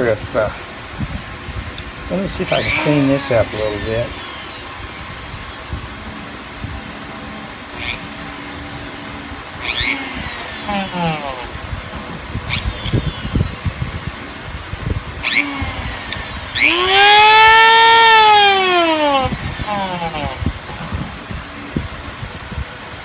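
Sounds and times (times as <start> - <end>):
rotary tool motor whining: 2.2 - 21.6.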